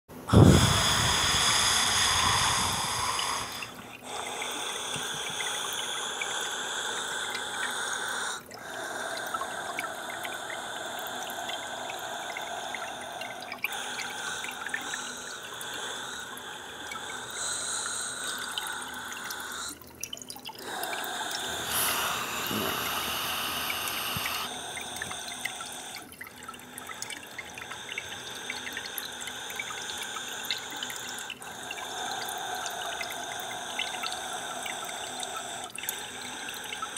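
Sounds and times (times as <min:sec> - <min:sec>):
water dripping and trickling: 0:00.3 - 0:36.9.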